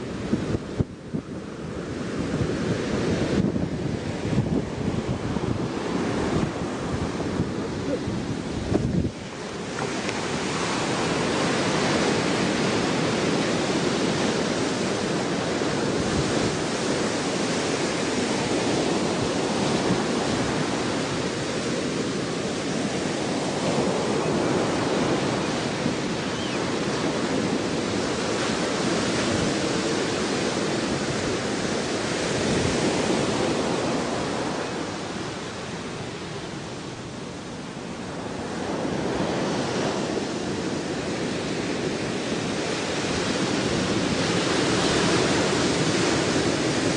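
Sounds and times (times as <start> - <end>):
ocean waves rushing: 0.0 - 46.9
wind: 0.0 - 46.9.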